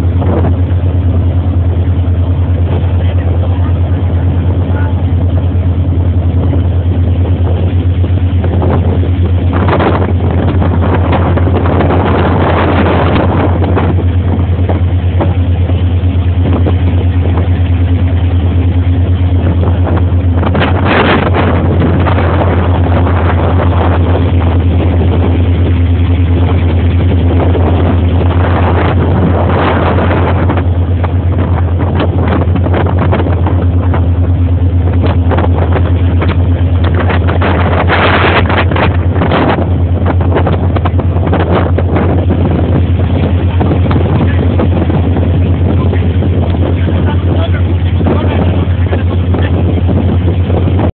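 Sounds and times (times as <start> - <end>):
motorboat engine droning: 0.0 - 50.9
rushing water noise: 0.0 - 50.9.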